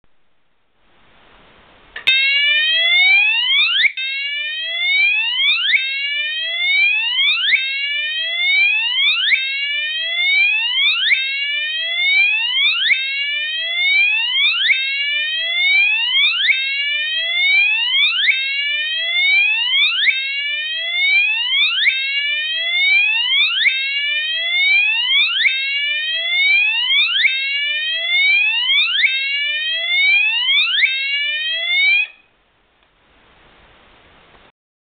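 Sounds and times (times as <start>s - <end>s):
fire alarm whoop tone: 2.1s - 32.3s.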